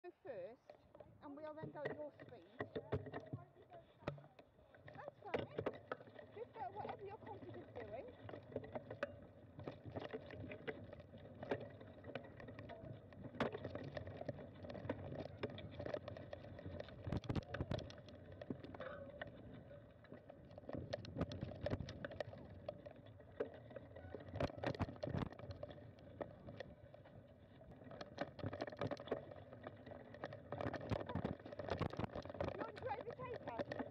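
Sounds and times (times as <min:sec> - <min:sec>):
bike rattling over bumps: 0:00.8 - 0:33.9
bike rumbling on dirt trail: 0:04.7 - 0:33.9.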